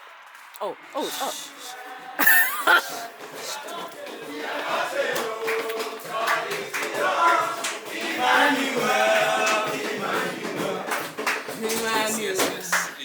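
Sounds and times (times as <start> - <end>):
group of people singing: 1.0 - 13.0
hand claps: 2.2 - 13.0.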